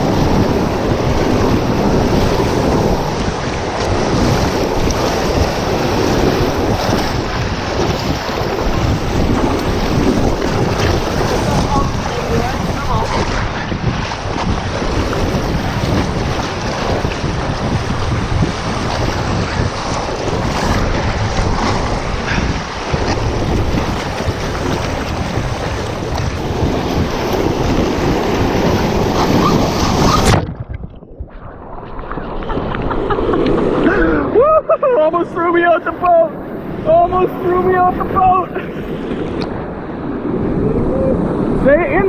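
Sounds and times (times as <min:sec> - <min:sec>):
whitewater rapids rushing: 0:00.0 - 0:30.4, 0:32.0 - 0:42.0
wind buffeting microphone: 0:00.0 - 0:42.0.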